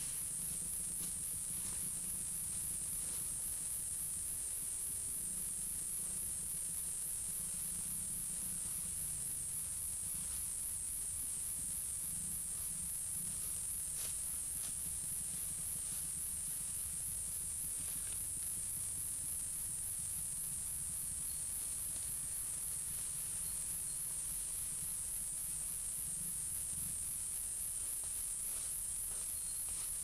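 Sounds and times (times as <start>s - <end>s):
insects chorus pulsing: 0.0s - 30.0s.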